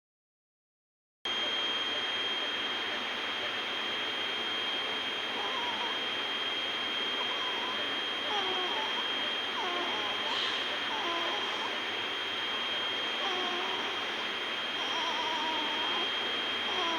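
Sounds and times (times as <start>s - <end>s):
constant high-pitched tone: 1.3s - 16.9s
faint wavering voice-like sounds: 1.4s - 16.9s.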